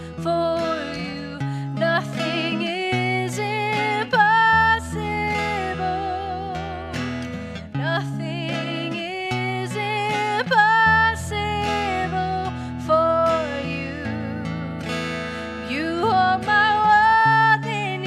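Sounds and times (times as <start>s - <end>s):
worship music with acoustic guitar: 0.0s - 18.0s.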